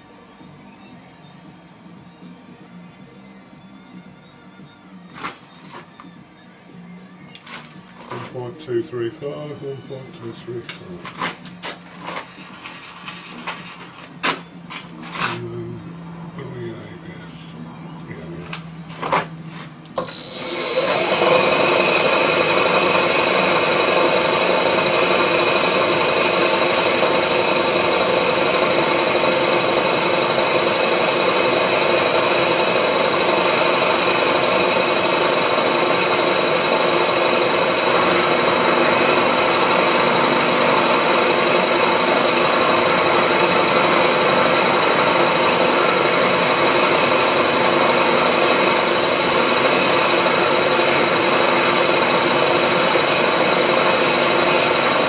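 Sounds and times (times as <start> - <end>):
milling machine whining: 0.0 - 55.0.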